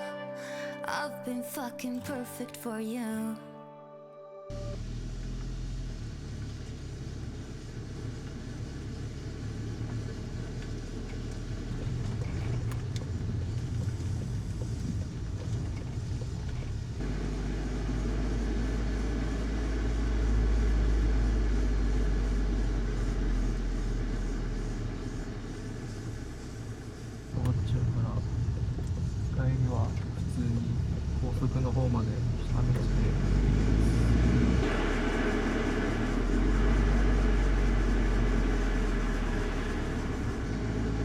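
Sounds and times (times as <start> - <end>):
car engine rumble: 4.5 - 41.0
road noise: 4.5 - 41.0.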